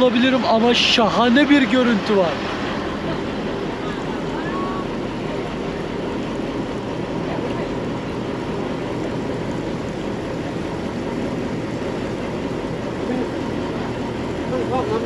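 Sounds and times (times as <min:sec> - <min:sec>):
boat engine humming: 0:00.0 - 0:15.0
water rushing along hull: 0:00.0 - 0:15.0.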